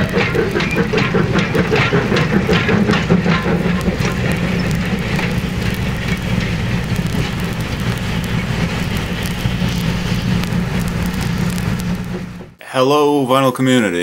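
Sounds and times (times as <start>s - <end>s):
low mechanical rumble: 0.0s - 12.6s
rapid mechanical clicking: 0.0s - 12.6s.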